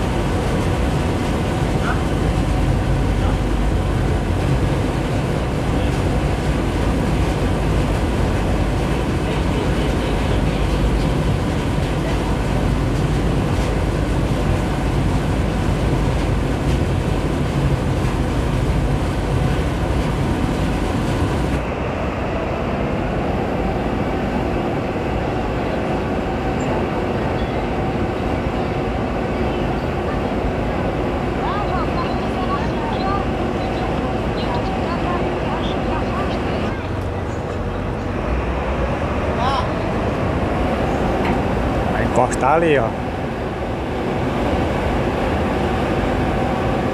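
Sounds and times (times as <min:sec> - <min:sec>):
diesel boat engine drone: 0:00.0 - 0:46.9
water noise: 0:00.0 - 0:46.9
wind: 0:00.0 - 0:46.9.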